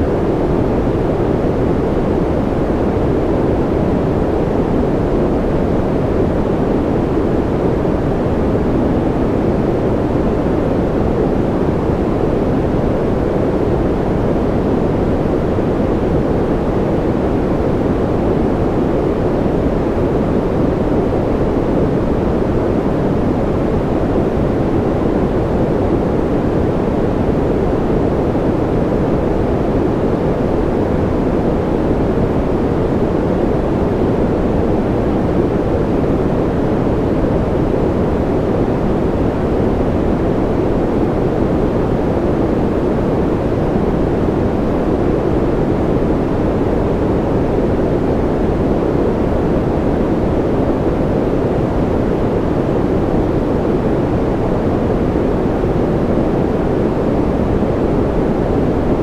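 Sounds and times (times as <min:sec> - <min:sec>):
deep rushing white noise: 0:00.0 - 0:59.0.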